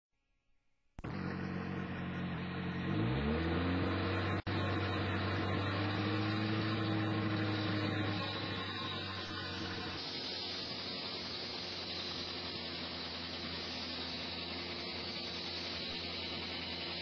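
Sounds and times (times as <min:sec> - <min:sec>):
small engine running and revving: 0:01.0 - 0:17.0.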